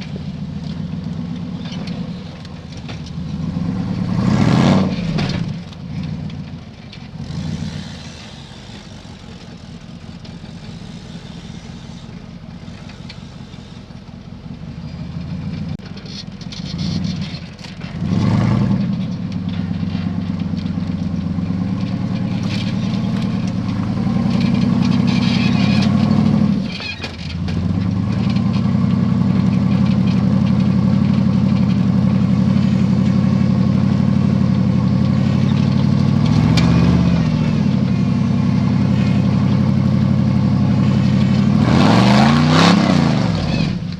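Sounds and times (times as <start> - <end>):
buggy engine revving: 0.0 - 43.9.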